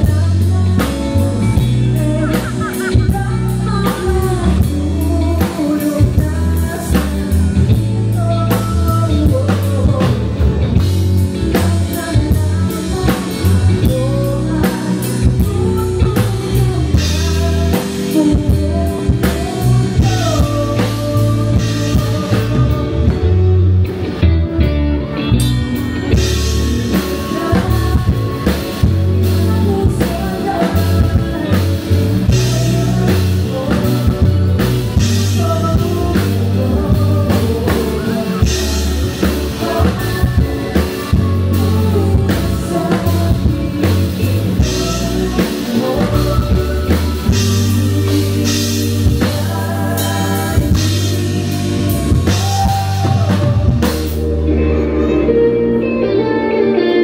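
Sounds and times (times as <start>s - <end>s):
drum kit: 0.0s - 57.0s
electric guitars: 0.0s - 57.0s
woman singing lead: 0.0s - 57.0s.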